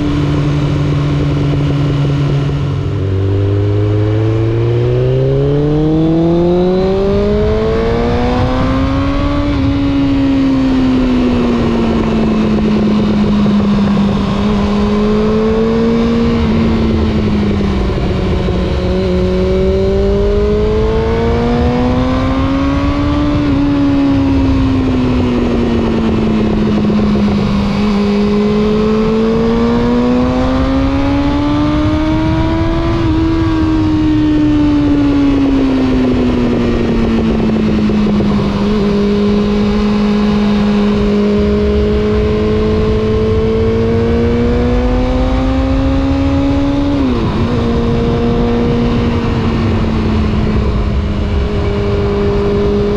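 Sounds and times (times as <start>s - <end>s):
motorcycle engine: 0.0s - 52.9s
rushing wind noise: 0.0s - 52.9s.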